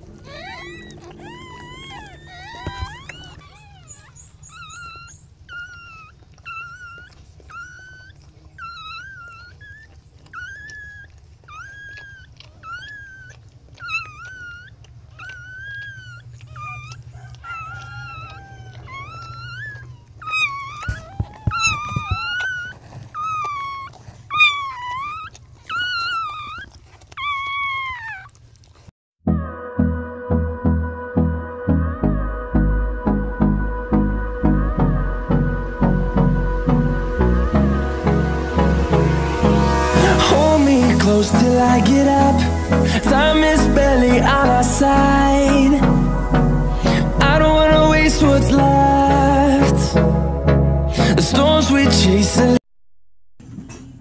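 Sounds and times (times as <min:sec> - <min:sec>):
low steady hum: 0:00.0 - 0:27.5, 0:29.3 - 0:52.6
puppies whimpering: 0:00.0 - 0:29.5, 0:31.9 - 0:50.2.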